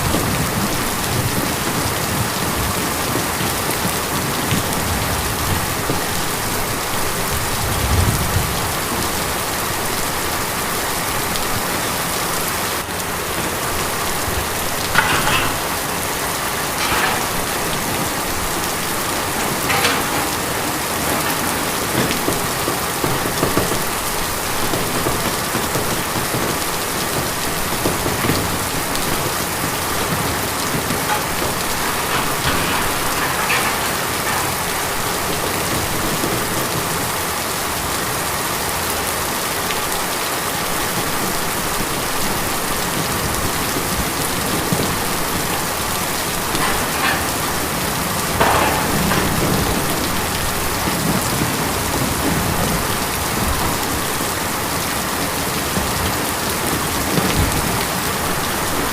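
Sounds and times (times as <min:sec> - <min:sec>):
rain on a tin roof: 0:00.0 - 0:58.9.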